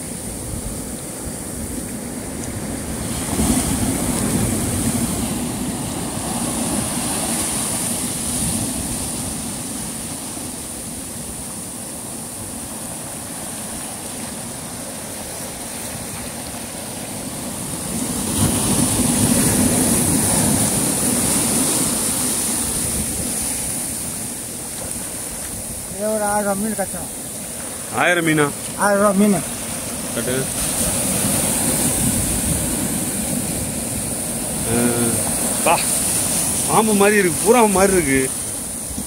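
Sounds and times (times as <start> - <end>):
sea surf rushing on shore: 0.0 - 39.0.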